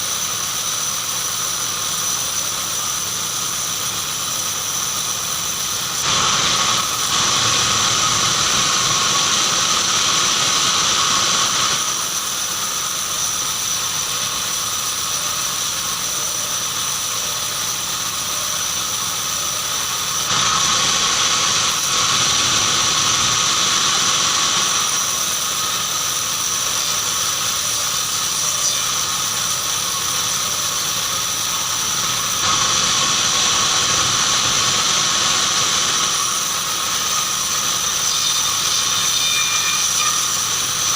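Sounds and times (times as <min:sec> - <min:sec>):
band saw whining: 0:00.0 - 0:40.9.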